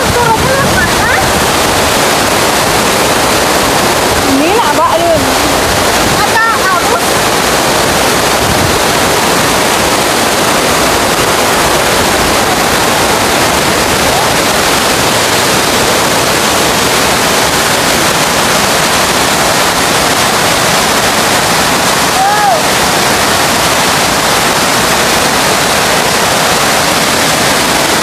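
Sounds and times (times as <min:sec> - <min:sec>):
waterfall roaring into pool: 0:00.0 - 0:28.0.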